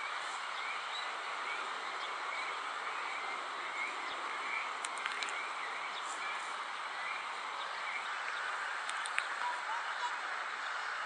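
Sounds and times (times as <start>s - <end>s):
faint bird chirps: 0.0s - 10.9s
outdoor background noise: 0.0s - 11.0s.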